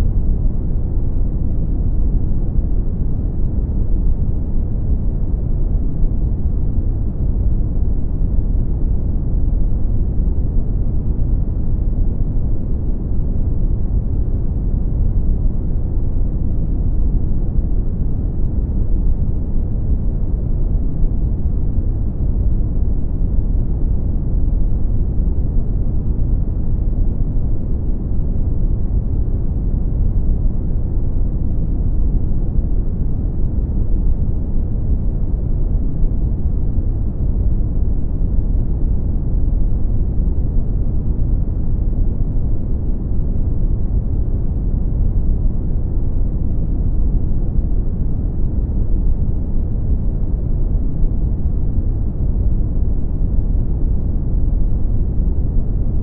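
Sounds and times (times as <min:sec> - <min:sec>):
brown noise rumbling hiss: 0:00.0 - 0:56.0.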